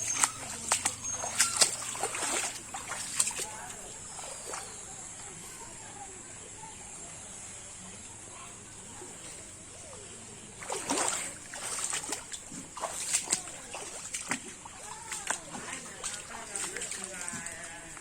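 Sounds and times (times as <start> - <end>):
floodwater splashing: 0.0 - 5.4, 8.7 - 18.0.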